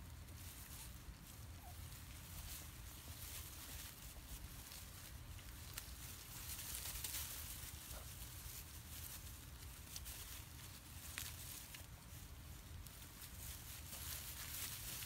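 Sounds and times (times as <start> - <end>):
rustling of dry straw: 0.0 - 15.0.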